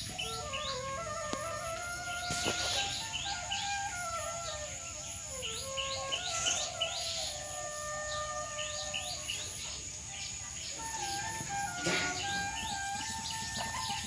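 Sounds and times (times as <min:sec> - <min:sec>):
soft instrumental music: 0:00.0 - 0:09.9, 0:10.6 - 0:14.0
bird chirps: 0:00.0 - 0:14.0.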